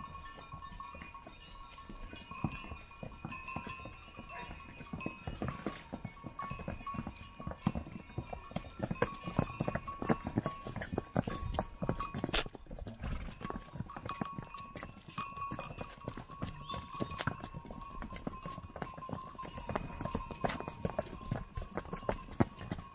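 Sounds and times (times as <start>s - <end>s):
hooves clopping on stone steps: 0.0s - 22.9s
mule bells tinkling: 0.0s - 22.9s.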